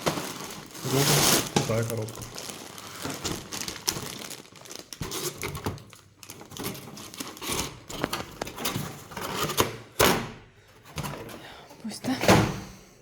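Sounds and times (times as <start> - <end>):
cardboard and plastic rustling: 0.0 - 11.4.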